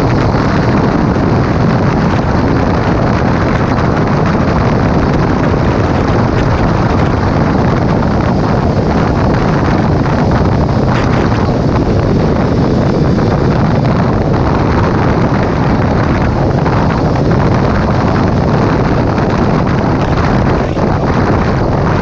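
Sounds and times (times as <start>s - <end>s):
motorcycle engine: 0.0s - 22.0s
road noise: 0.0s - 22.0s
wind rushing over microphone: 0.0s - 22.0s.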